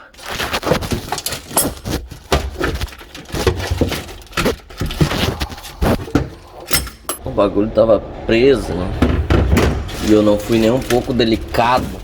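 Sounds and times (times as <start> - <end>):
knocks clatters and scrapes in trunk: 0.6 - 6.4, 7.1 - 12.0.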